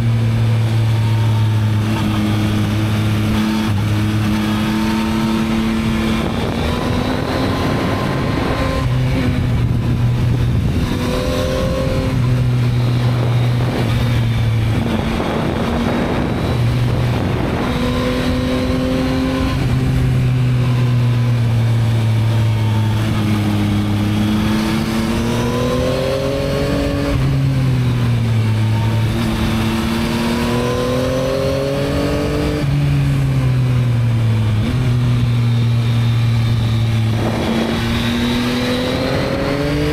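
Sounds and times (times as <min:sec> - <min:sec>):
motorcycle engine accelerating: 0:00.0 - 0:39.9
wind noise: 0:00.7 - 0:39.9.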